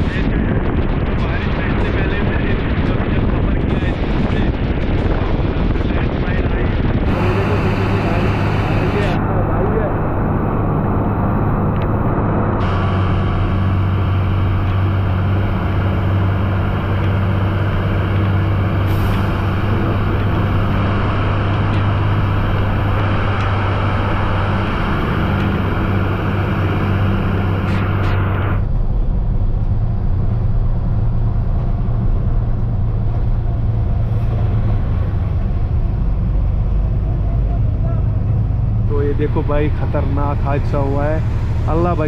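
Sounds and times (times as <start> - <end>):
truck diesel engine running: 0.0 - 42.0
tyres on wet road: 0.0 - 42.0.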